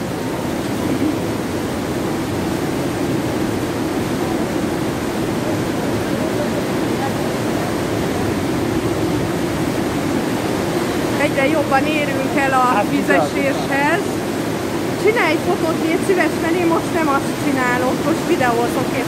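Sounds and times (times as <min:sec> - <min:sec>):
mountain torrent rushing: 0:00.0 - 0:19.0.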